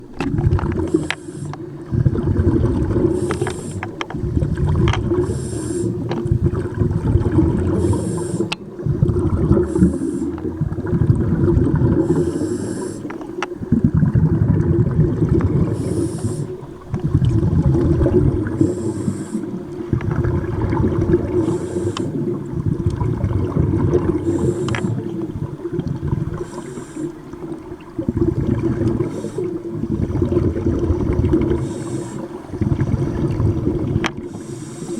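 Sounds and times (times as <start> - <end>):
exhaled bubbles underwater: 0.0 - 34.9
diver inhaling through regulator: 0.7 - 13.4, 15.2 - 27.7, 28.7 - 30.2, 31.3 - 34.9.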